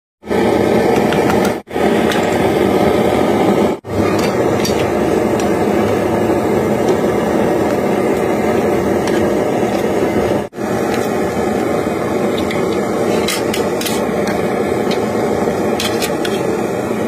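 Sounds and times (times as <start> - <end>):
water boiling hard in pan: 0.2 - 17.0.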